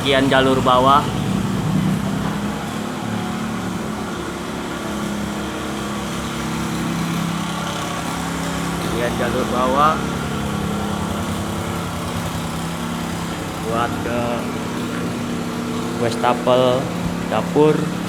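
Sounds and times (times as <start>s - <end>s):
small engine humming: 0.0s - 18.0s.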